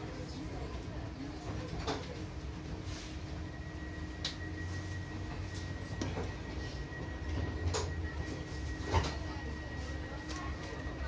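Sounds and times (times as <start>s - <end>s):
tram equipment humming: 0.0s - 11.0s.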